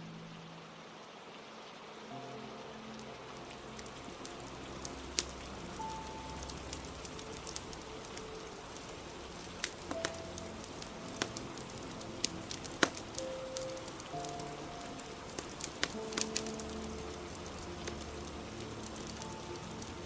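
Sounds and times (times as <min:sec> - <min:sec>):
rain hissing: 0:00.0 - 0:20.0
soft music with held notes: 0:00.0 - 0:20.0
fire crackling and popping: 0:03.0 - 0:20.0.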